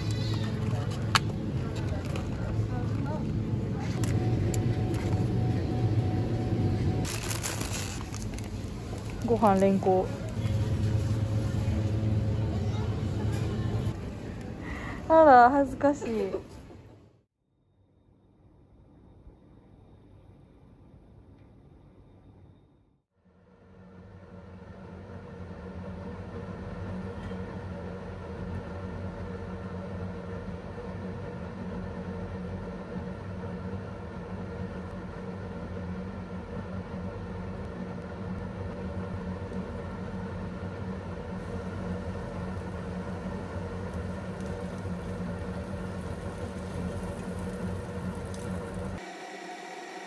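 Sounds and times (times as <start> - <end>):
low mechanical hum: 0.0 - 17.2, 17.8 - 50.0.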